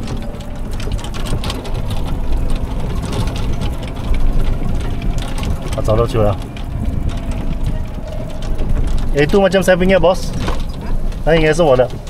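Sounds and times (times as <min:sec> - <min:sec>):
golf cart driving over grass: 0:00.0 - 0:12.0
rattles and clicks of cart body: 0:00.0 - 0:12.0.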